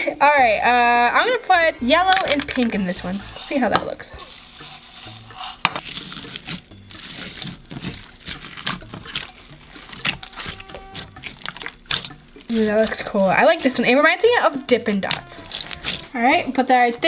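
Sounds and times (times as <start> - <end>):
foam beads crackling: 2.6 - 17.0
sticky slime squishing: 2.8 - 17.0.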